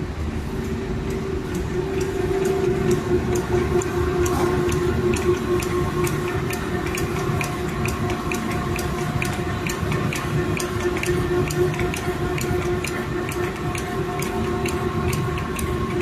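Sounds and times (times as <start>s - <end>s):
printing press mechanical hum: 0.0s - 16.0s
rapid even ticking: 0.6s - 16.0s.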